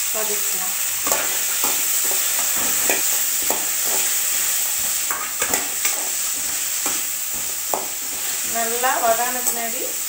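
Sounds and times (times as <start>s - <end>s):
food sizzling in hot oil: 0.0s - 10.0s
metal spatula scraping pan: 1.0s - 9.8s.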